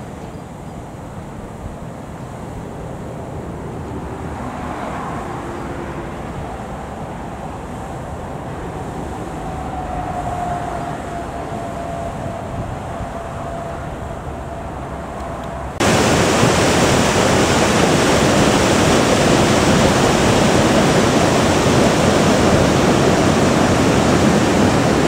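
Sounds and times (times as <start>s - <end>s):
water rushing over weir: 1.0s - 25.0s.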